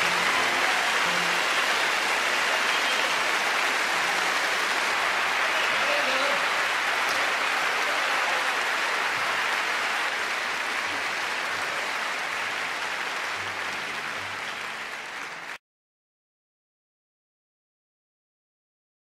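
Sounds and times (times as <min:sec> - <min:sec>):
audience applauding: 0:00.0 - 0:15.6.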